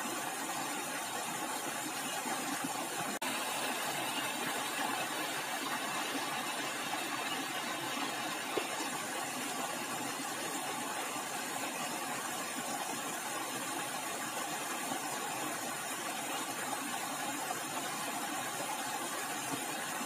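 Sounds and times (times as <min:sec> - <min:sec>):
stream water running over rocks: 0:00.0 - 0:20.0.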